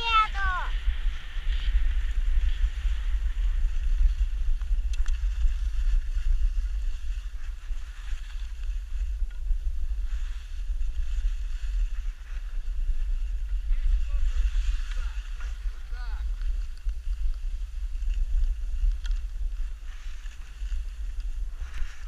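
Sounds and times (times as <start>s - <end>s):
skis sliding over snow: 0.0s - 22.0s
wind buffeting microphone: 0.0s - 22.0s.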